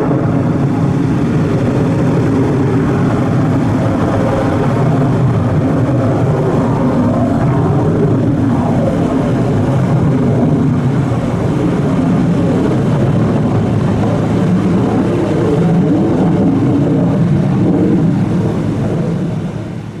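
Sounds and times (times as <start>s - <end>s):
jet engines in afterburner: 0.0s - 20.0s.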